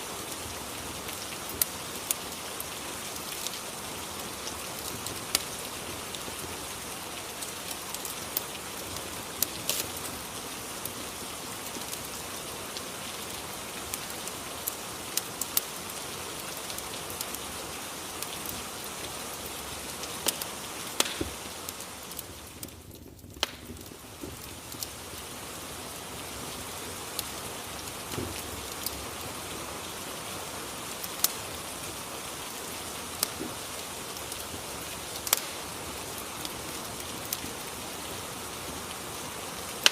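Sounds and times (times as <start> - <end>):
rain hissing: 0.0 - 39.9
wood fire crackling: 0.0 - 39.9.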